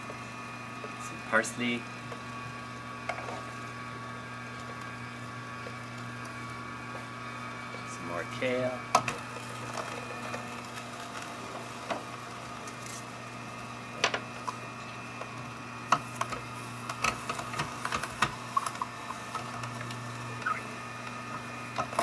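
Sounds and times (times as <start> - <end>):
juicer motor hum: 0.0 - 22.0.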